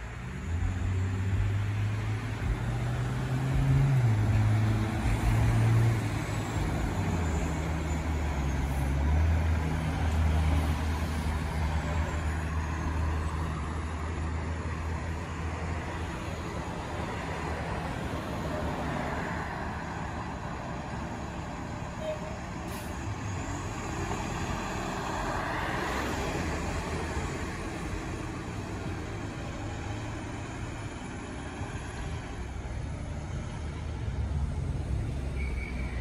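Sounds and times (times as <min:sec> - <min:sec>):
car passing: 0:00.0 - 0:21.9, 0:22.7 - 0:36.0
bus engine running: 0:00.0 - 0:36.0
street traffic: 0:00.0 - 0:36.0.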